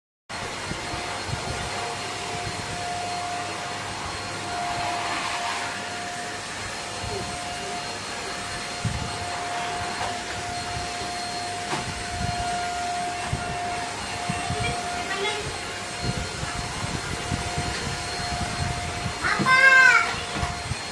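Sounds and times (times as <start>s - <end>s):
handheld vacuum cleaner running: 0.3s - 20.9s.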